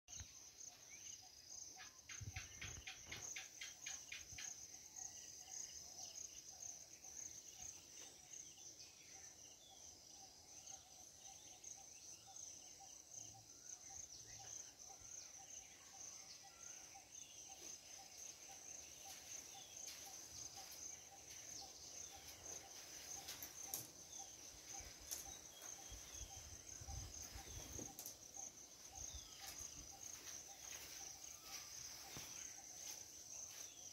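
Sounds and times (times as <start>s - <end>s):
bird chirps: 0.1s - 33.9s
high-pitched insect chorus: 0.1s - 33.9s
pulsing insect call: 0.2s - 33.9s.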